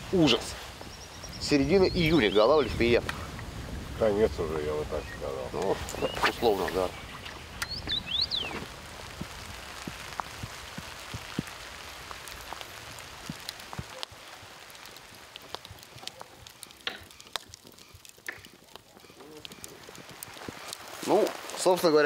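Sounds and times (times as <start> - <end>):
rain falling on water: 0.0 - 22.0.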